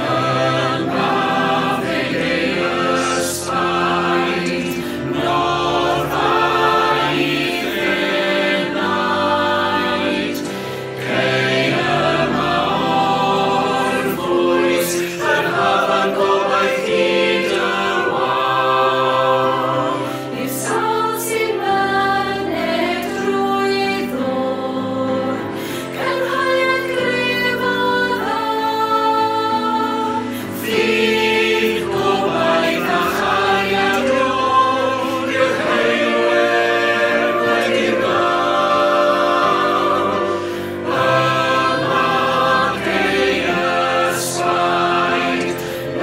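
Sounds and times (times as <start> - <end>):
mixed choir singing in harmony: 0.0 - 46.0.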